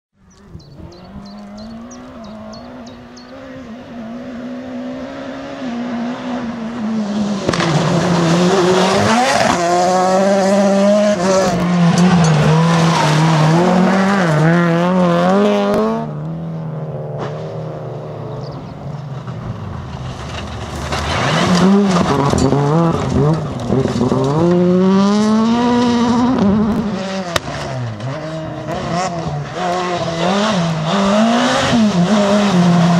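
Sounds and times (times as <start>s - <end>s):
rally car engines revving: 0.2s - 32.9s.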